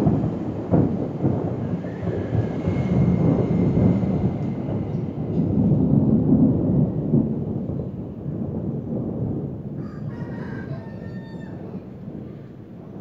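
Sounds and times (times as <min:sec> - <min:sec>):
rolling thunder rumbling: 0:00.0 - 0:13.0.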